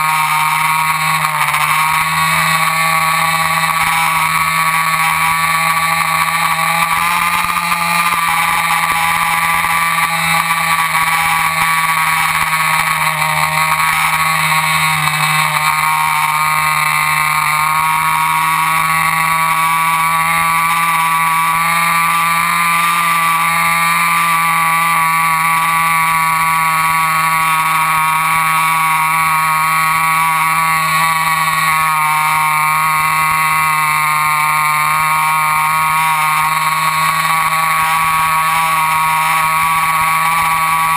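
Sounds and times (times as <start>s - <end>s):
model airplane motor and propeller: 0.0s - 40.9s.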